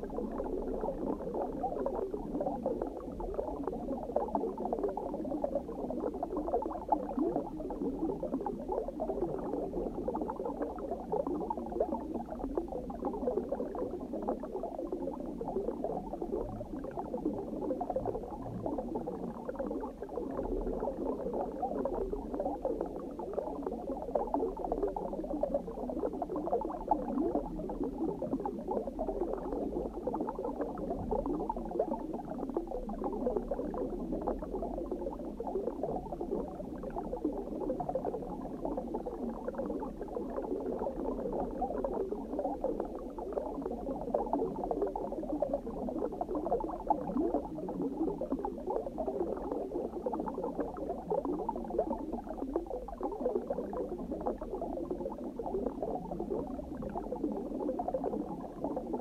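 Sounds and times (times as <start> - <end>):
underwater bubbling: 0.0 - 59.0.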